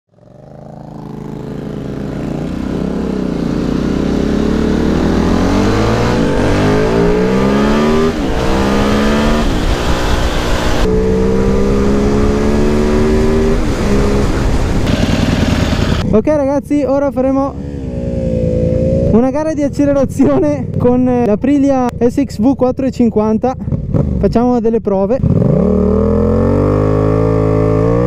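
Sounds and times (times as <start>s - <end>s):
motorcycle engine revving: 0.1s - 16.2s, 17.2s - 28.0s.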